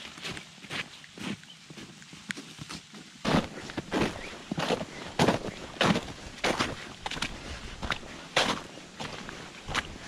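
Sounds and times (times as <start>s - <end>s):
boots crunching on frozen ground: 0.0s - 10.0s.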